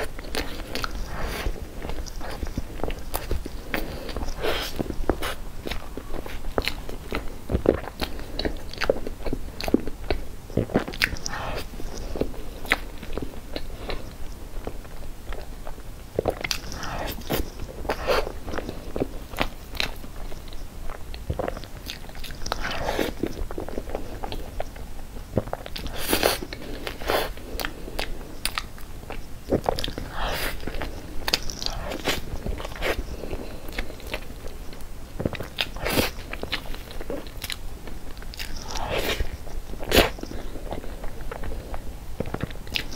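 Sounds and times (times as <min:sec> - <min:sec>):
chewing and lip smacks: 0:00.0 - 0:42.9.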